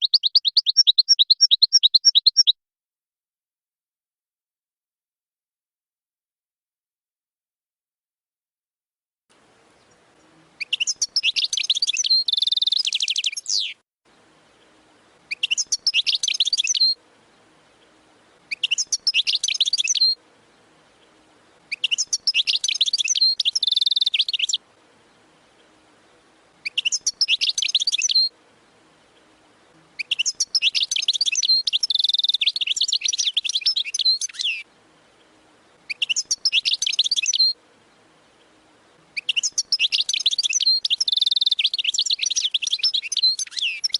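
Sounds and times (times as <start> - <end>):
goldfinch singing: 0.0 - 2.6, 9.7 - 13.8, 14.6 - 43.9.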